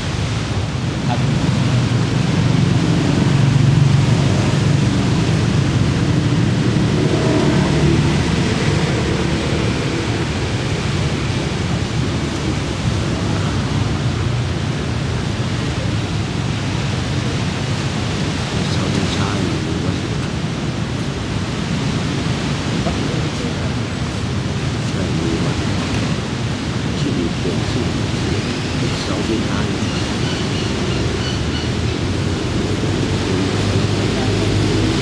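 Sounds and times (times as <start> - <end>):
surf noise: 0.0 - 35.0
wind rumble: 0.0 - 35.0.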